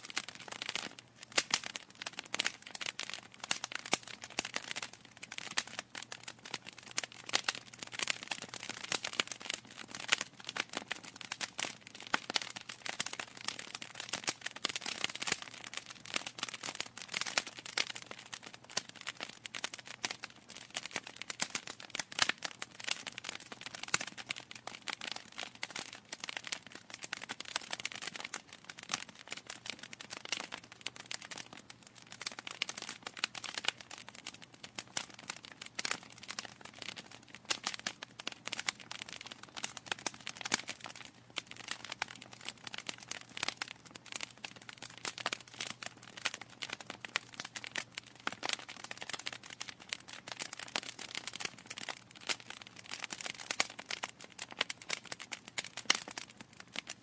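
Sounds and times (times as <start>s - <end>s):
logs crackling in a fireplace: 0.0s - 57.0s.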